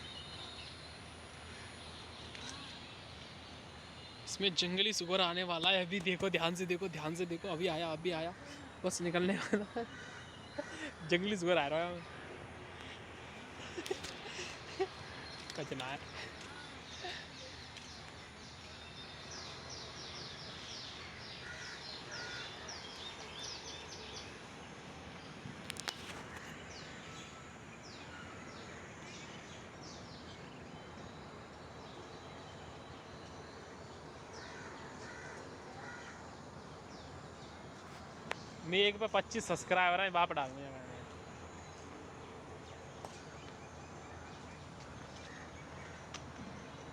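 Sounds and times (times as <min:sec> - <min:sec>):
steady background hiss: 0:00.0 - 0:46.9.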